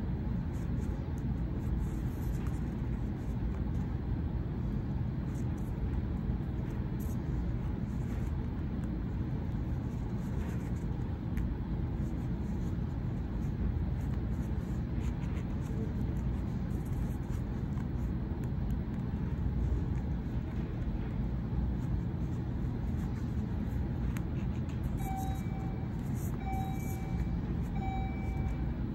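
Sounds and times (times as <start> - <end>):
low background rumble: 0.0 - 28.9.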